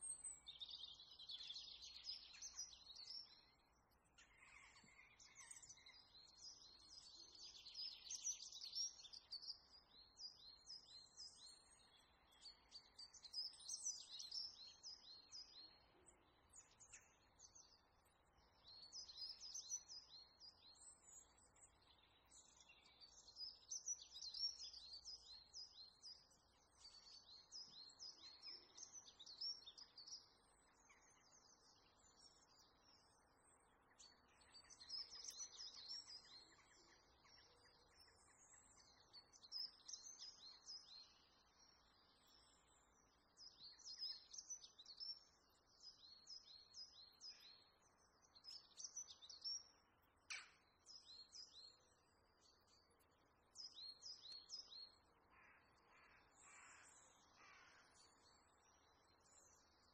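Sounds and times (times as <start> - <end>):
high chirping birdsong: 0.0 - 59.9.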